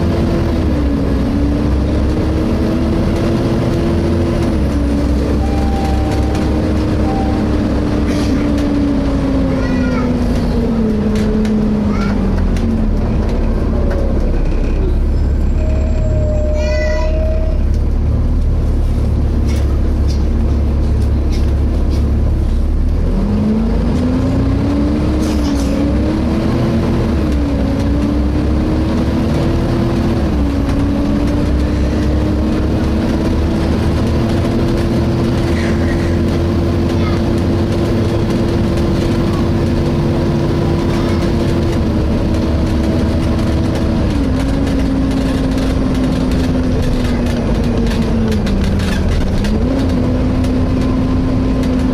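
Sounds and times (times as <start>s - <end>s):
bus engine drone: 0.0s - 51.9s.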